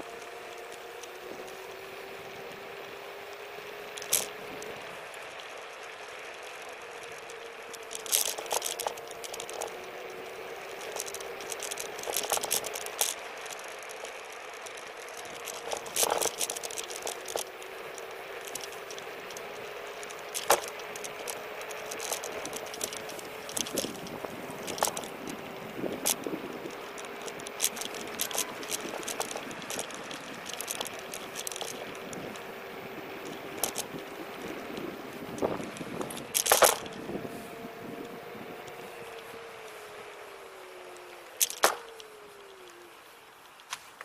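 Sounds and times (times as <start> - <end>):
faint electric motor whine: 0.0 - 44.0
scooter rattling over bumps: 0.0 - 44.0
tyre hiss on pavement: 0.0 - 44.0.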